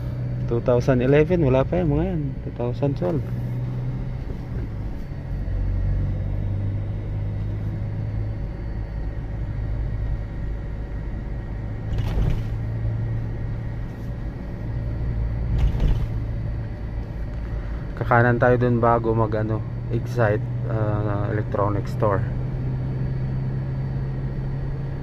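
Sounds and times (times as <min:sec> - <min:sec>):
car engine and road hum: 0:00.0 - 0:25.0.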